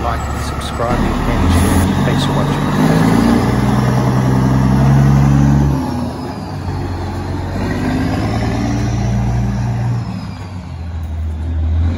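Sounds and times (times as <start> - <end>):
diesel truck engine driving away: 0.0 - 11.9.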